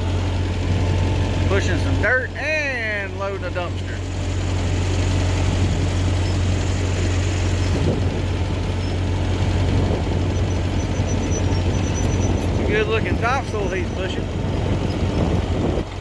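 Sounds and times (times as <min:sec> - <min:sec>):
tractor engine putting: 0:00.0 - 0:16.0.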